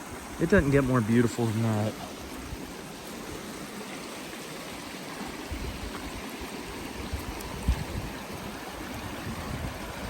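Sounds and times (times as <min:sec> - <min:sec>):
stream water flowing: 0:00.0 - 0:10.0.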